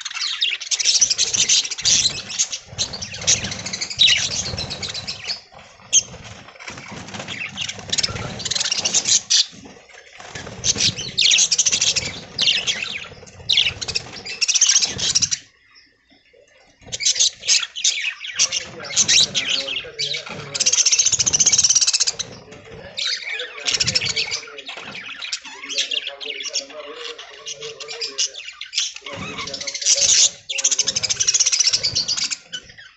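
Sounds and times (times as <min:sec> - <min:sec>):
budgerigars chattering: 0:00.0 - 0:32.9.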